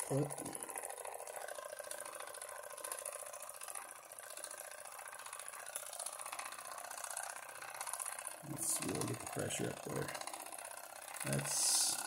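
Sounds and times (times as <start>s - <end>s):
toy steam engine clattering: 0.0s - 12.0s.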